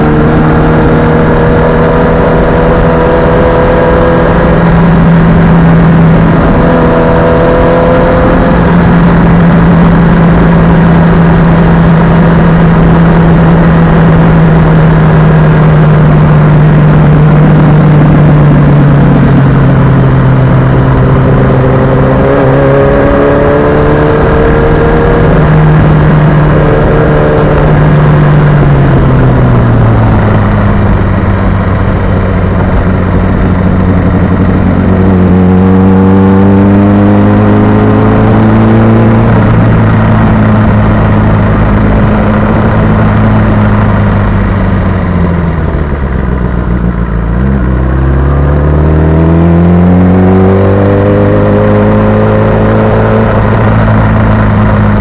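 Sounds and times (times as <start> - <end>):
motorcycle engine running: 0.0 - 55.0
wind noise: 0.0 - 55.0.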